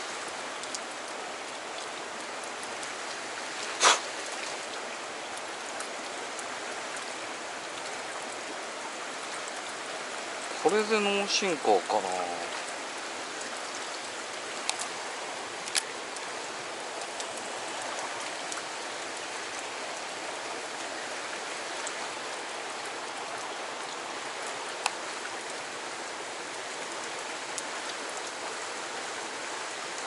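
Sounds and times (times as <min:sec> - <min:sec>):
river current rushing: 0:00.0 - 0:30.0.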